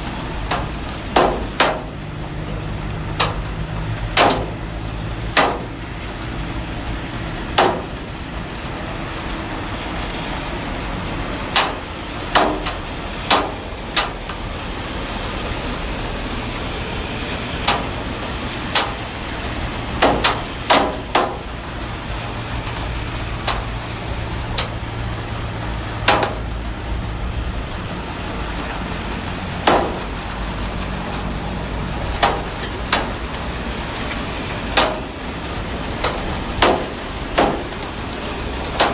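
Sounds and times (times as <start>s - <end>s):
heavy rain hissing: 0.0s - 38.9s
raindrops knocking on hard surface: 0.0s - 38.9s.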